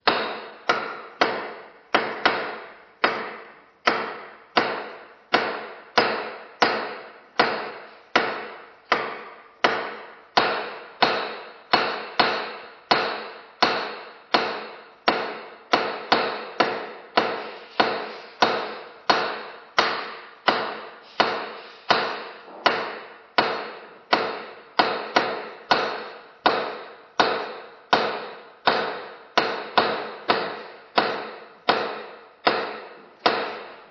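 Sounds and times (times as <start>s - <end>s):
hammer blows ringing: 0.0s - 33.9s.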